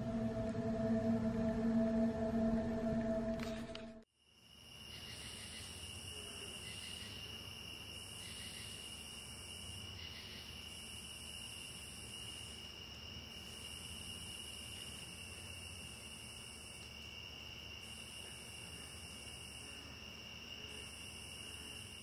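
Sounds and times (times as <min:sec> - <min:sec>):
insects trilling: 0:04.3 - 0:22.0.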